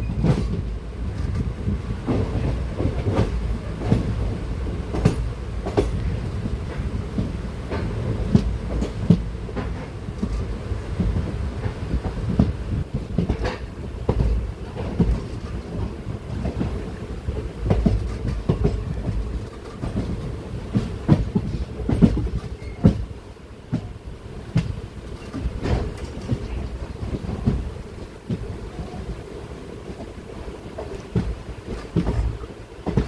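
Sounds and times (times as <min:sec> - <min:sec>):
wheels clattering on track: 0:00.0 - 0:23.1, 0:23.7 - 0:29.2, 0:29.9 - 0:33.0
train rumble on board: 0:00.0 - 0:33.0.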